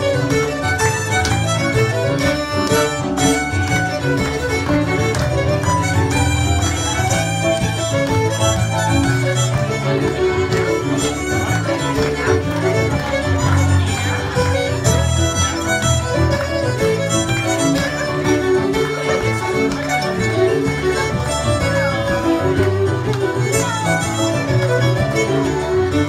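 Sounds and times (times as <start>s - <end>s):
fiddle playing quick notes: 0.0s - 26.0s
keyboard accompaniment: 0.0s - 26.0s
steady bass: 0.0s - 26.0s.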